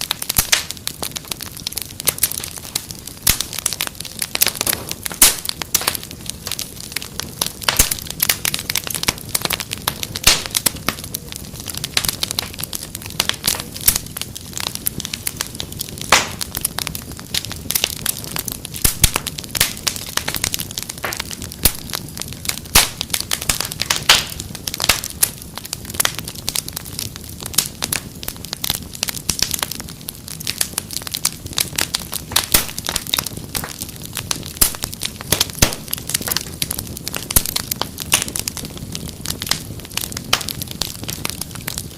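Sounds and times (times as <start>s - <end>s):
fire popping and snapping: 0.0s - 41.9s
wood fire crackling: 0.0s - 41.9s.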